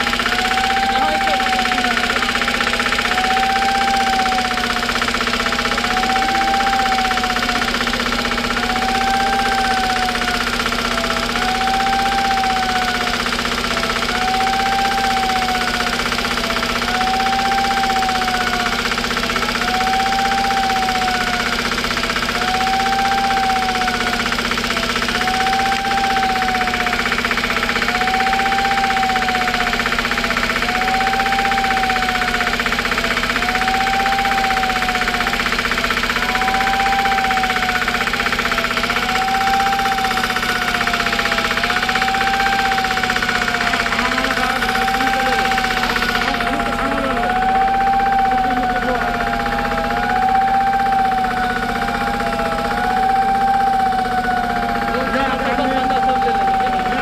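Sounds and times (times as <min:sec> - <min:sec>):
emergency siren wailing: 0:00.0 - 0:57.0
engine running: 0:00.0 - 0:57.0.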